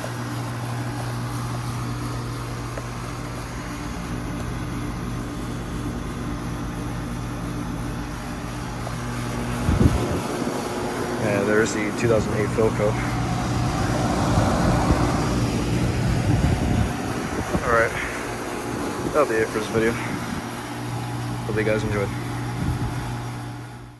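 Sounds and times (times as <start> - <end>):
air conditioner unit running: 0.0 - 23.9.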